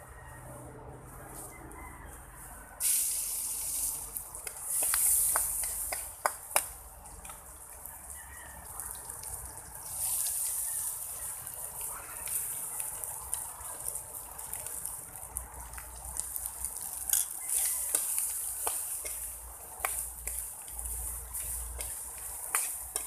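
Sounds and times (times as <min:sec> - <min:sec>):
food sizzling in a hot pan: 0:02.8 - 0:06.7, 0:07.8 - 0:23.0.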